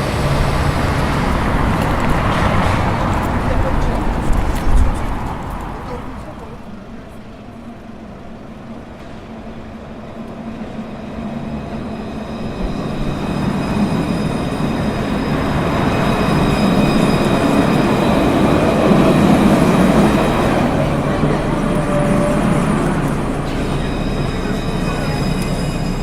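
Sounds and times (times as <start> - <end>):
high squealing train wheels: 0.0 - 26.0
train running on rails: 0.0 - 26.0.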